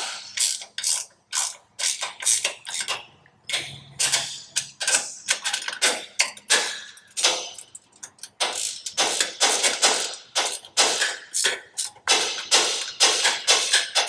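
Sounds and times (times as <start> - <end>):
wrench clicking on metal: 0.0 - 14.0.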